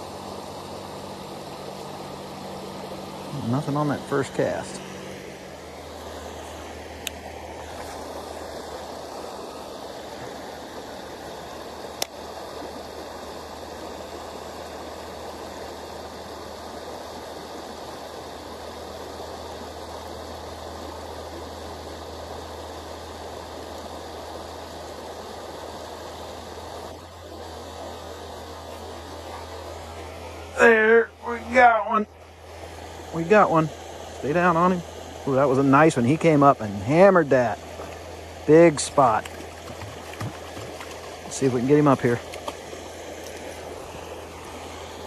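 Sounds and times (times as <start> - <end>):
creek water running: 0.0 - 45.0.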